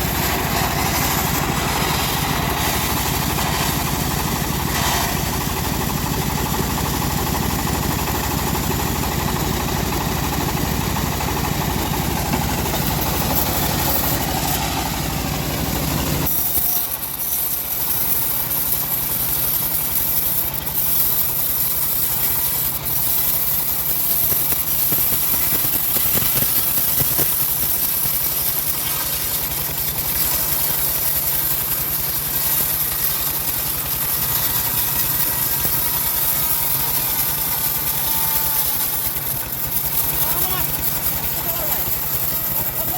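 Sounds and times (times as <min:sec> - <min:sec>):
bandsaw mill engine rumble: 0:00.0 - 0:42.9.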